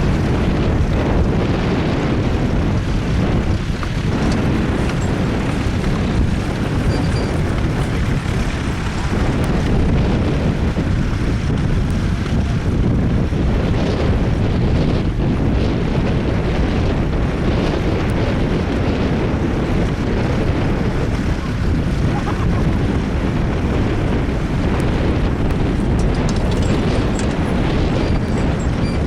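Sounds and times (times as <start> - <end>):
tractor engine running: 0.0 - 29.0
wind buffeting microphone: 0.0 - 29.0.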